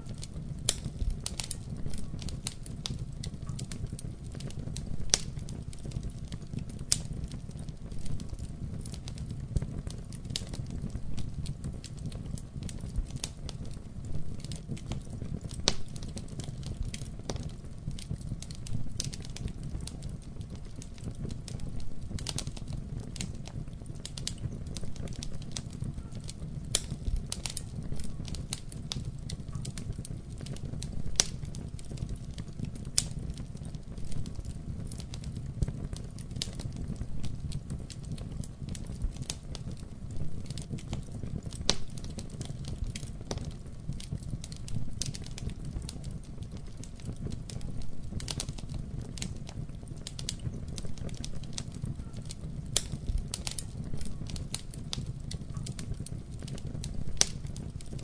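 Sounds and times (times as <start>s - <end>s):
fire crackling and popping: 0.0s - 58.0s
flames rumbling: 0.0s - 58.0s.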